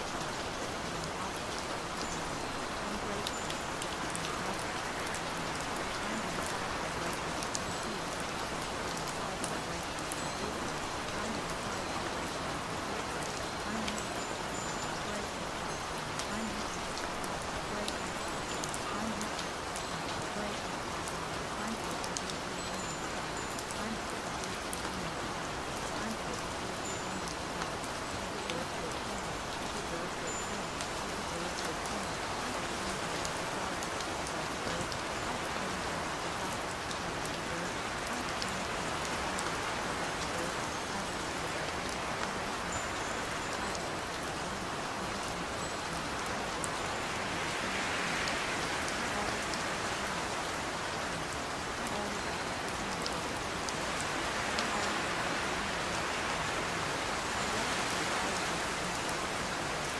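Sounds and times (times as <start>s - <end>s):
patter of raindrops: 0.0s - 59.9s
steady rain hiss: 0.0s - 59.9s
faint low speech: 0.7s - 59.9s.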